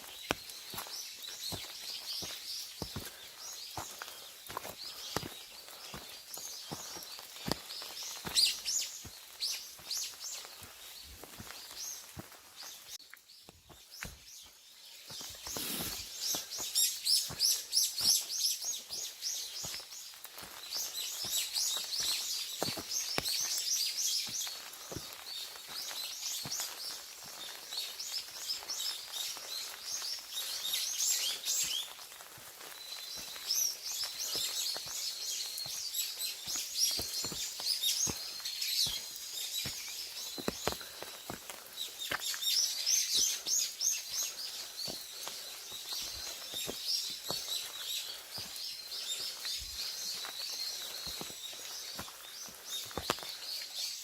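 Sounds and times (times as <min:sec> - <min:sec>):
soft footsteps on forest path: 0:00.0 - 0:54.0
songbirds chirping and singing: 0:00.0 - 0:54.0.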